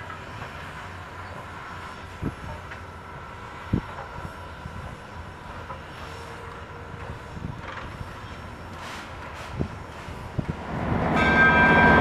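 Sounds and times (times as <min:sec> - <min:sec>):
steam locomotive rumble and hiss: 0:00.0 - 0:12.0.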